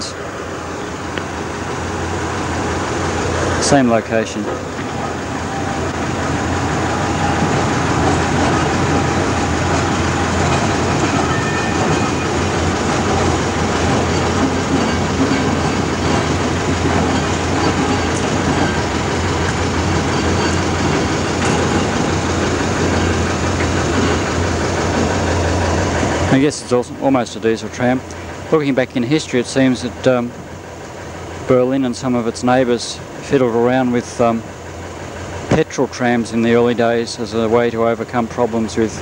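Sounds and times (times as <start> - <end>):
diesel locomotive running: 0.0 - 39.0
wagon wheels rumbling on rails: 0.0 - 39.0.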